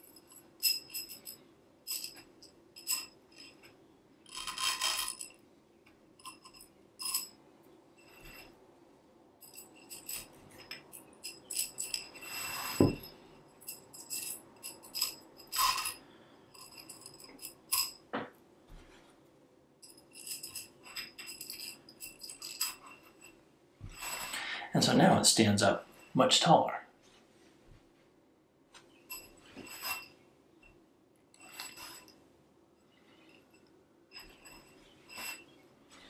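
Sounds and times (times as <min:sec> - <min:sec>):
metallic clinking and jingling: 0:00.0 - 0:08.6, 0:09.4 - 0:18.2, 0:19.8 - 0:25.1, 0:28.9 - 0:36.0.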